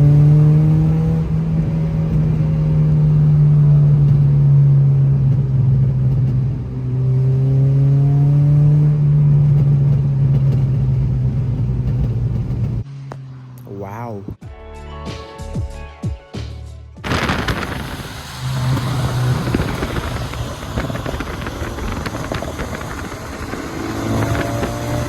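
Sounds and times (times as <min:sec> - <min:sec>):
car engine accelerating: 0:00.0 - 0:13.7, 0:17.0 - 0:25.0.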